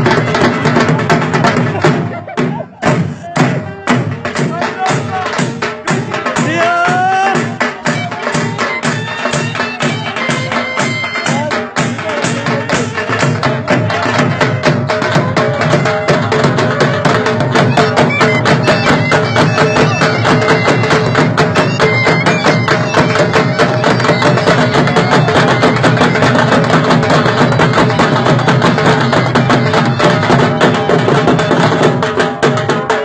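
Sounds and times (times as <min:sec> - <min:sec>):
drums beaten in fast rhythm: 0:00.0 - 0:33.0
reedy shawm melody: 0:00.0 - 0:33.0.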